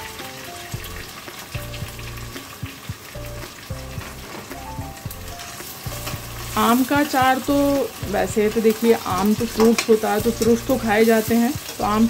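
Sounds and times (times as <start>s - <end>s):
soft background music: 0.0s - 12.0s
vegetables sizzling in hot oil: 0.0s - 12.0s.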